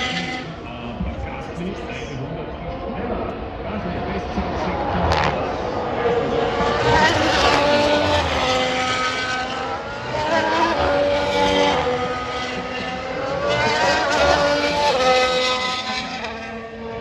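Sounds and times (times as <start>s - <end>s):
racing cars passing by: 0.0s - 1.8s, 2.7s - 17.0s.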